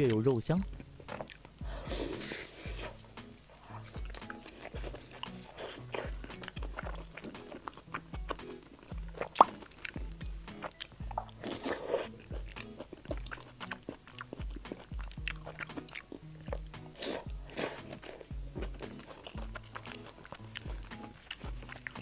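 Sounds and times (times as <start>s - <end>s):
wet chewing and lip smacking: 0.0s - 22.0s
music with bass beat: 0.6s - 22.0s.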